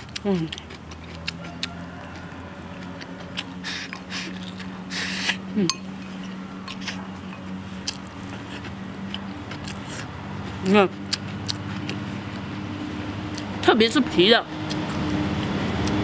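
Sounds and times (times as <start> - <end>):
chewing and sucking: 0.0 - 12.6, 14.6 - 16.0.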